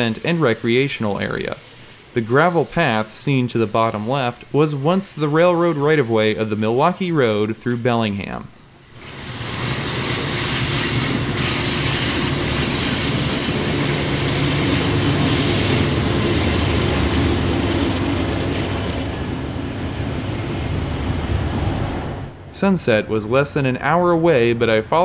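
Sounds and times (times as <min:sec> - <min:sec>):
train wheels rolling on rails: 0:00.0 - 0:22.4
diesel locomotive drone: 0:00.0 - 0:25.0.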